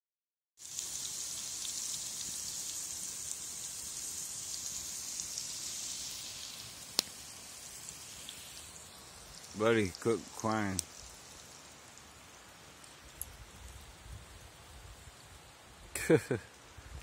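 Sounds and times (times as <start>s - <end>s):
meat sizzling in a pot: 0.6s - 16.4s.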